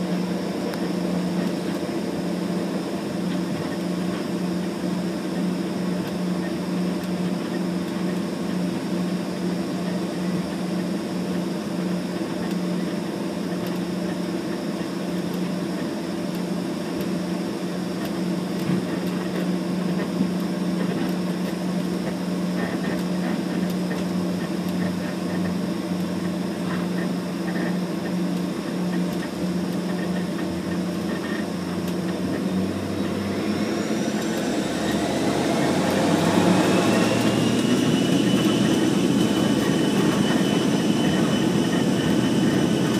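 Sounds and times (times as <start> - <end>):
airliner engines humming: 0.0 - 42.9
jet engines spooling up whine: 0.0 - 42.9.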